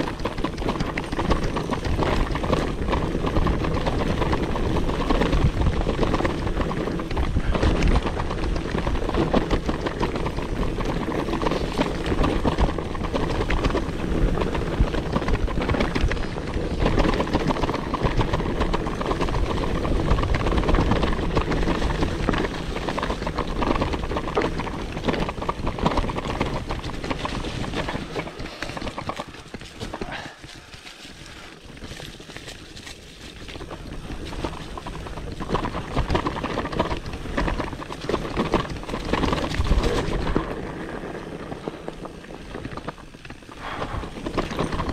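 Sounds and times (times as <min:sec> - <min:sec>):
bike rattling with small knocks: 0:00.0 - 0:44.9
bike tyres on dirt: 0:00.0 - 0:44.9.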